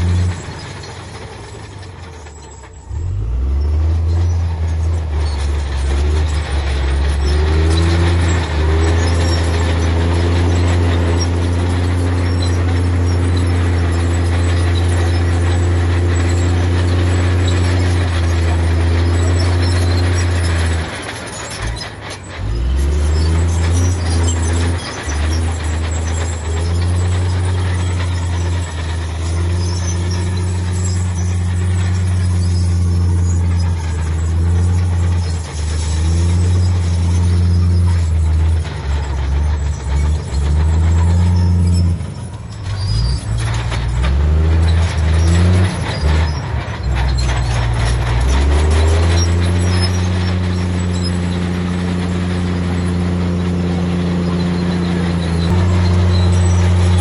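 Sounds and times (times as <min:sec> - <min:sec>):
heavy diesel machinery engine drone: 0:00.0 - 0:57.0.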